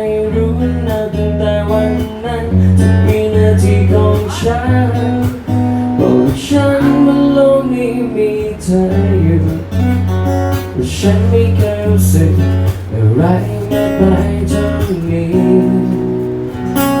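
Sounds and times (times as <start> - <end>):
strummed acoustic guitar: 0.0 - 17.0
steady bass line: 0.2 - 17.0.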